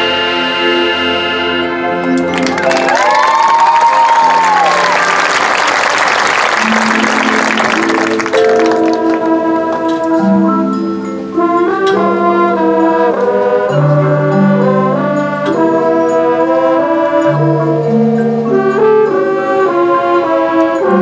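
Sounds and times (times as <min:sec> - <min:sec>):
marching band playing: 0:00.3 - 0:10.6, 0:11.4 - 0:21.0.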